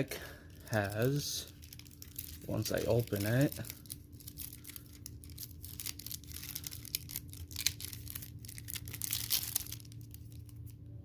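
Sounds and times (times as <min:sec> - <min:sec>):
paper wrapping tearing and crinkling: 0:00.7 - 0:10.8.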